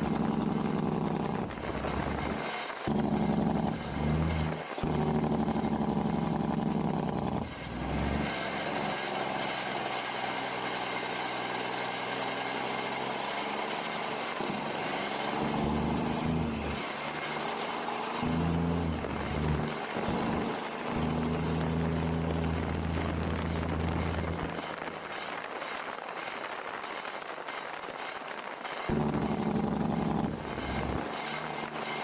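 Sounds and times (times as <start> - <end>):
truck diesel engine pulling through gears: 0.0 - 32.0.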